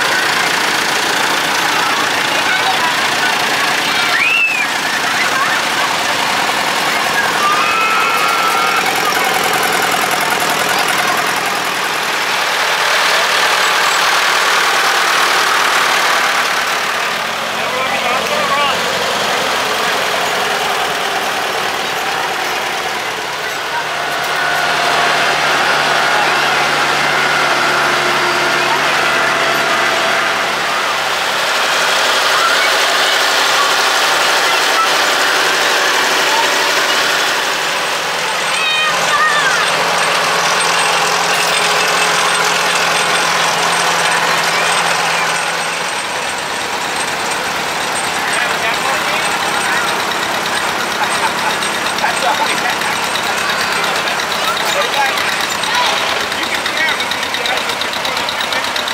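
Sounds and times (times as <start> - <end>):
crowd chatter: 0.0 - 58.9
tractor engines running: 0.0 - 58.9.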